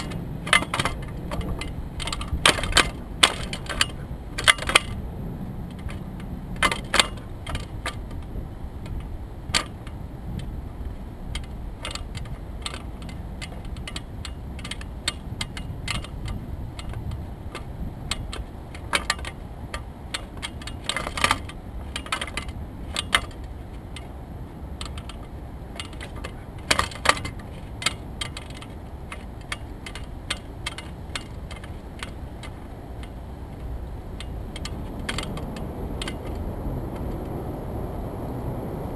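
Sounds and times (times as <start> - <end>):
small metallic rattles: 0.0 - 37.2
wind rumbling on microphone: 0.0 - 38.9.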